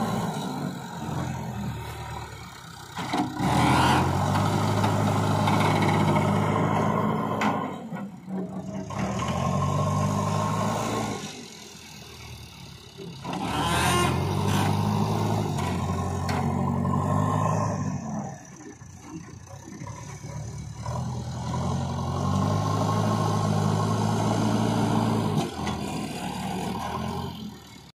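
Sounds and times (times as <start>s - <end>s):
diesel engine revving: 0.0s - 27.9s.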